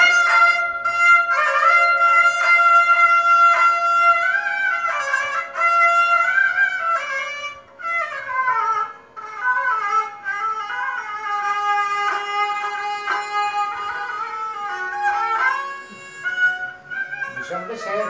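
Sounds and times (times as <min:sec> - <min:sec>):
bowed fiddle melody: 0:00.0 - 0:18.0
lute strumming rhythm: 0:00.0 - 0:18.0.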